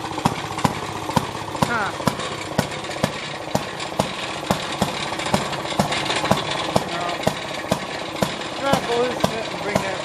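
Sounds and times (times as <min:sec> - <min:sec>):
sharp engine knock: 0:00.0 - 0:10.0
two-stroke engine running: 0:00.0 - 0:10.0.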